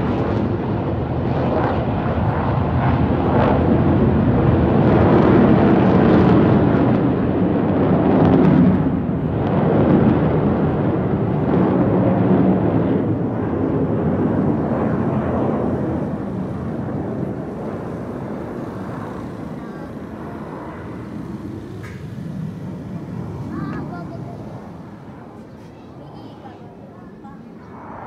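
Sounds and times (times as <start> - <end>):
jet engines roaring overhead: 0.0 - 28.0.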